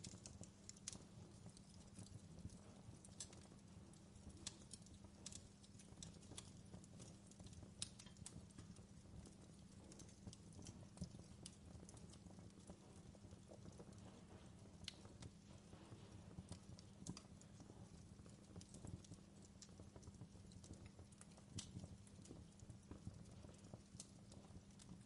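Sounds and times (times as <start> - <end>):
fireplace crackling: 0.0 - 25.0.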